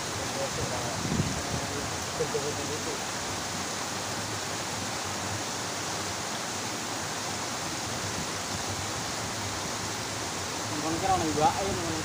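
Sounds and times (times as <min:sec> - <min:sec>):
water rushing from small cascade: 0:00.0 - 0:12.0.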